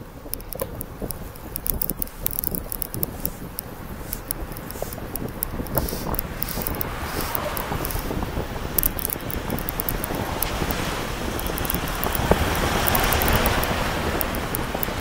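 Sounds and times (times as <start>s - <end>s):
light ticks and rattles: 0.0s - 15.0s
wind rushing over microphone: 0.0s - 15.0s.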